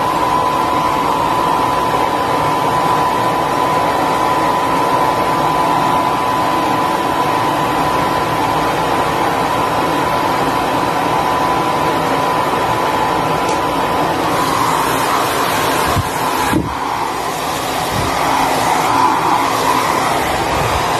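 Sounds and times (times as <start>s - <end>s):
hair dryer running: 0.0s - 20.9s.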